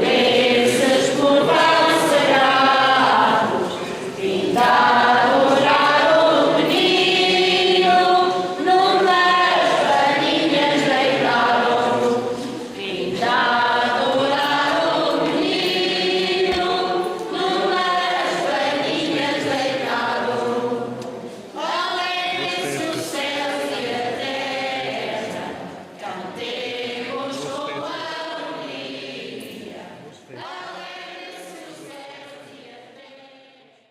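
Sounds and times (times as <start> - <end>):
choir singing: 0.0 - 33.9.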